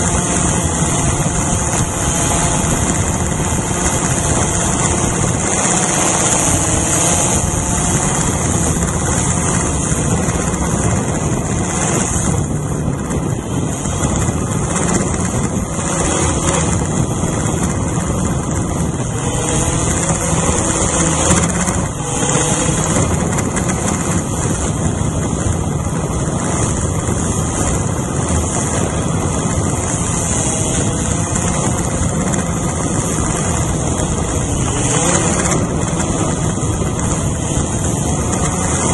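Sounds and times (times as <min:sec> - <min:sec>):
drone motors whirring: 0:00.0 - 0:38.9.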